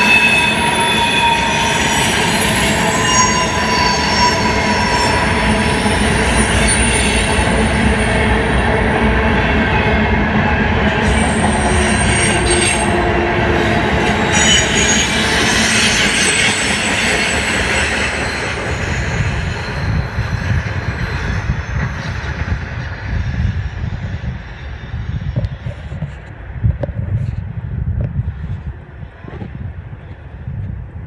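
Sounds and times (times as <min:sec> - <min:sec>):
high wheel squeals: 0:00.0 - 0:25.9.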